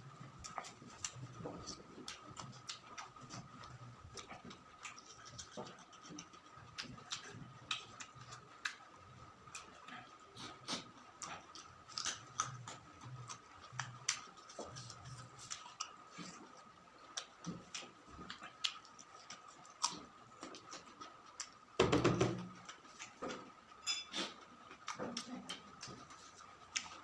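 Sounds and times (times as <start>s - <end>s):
chewing with mouth clicks: 0.2s - 21.8s, 22.5s - 27.0s.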